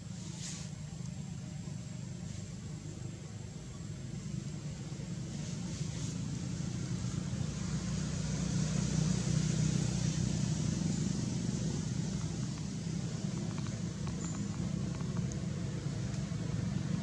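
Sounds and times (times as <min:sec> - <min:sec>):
car engine hum: 0:00.8 - 0:17.0.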